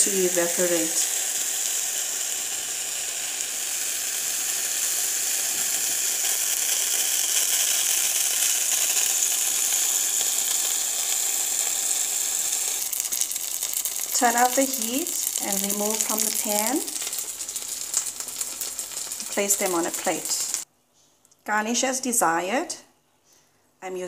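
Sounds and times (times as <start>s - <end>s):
dumplings sizzling in oil: 0.0s - 20.7s.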